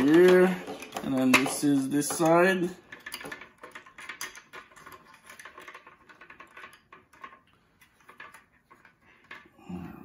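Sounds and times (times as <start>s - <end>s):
plastic parts clicking and rustling: 0.0s - 9.6s.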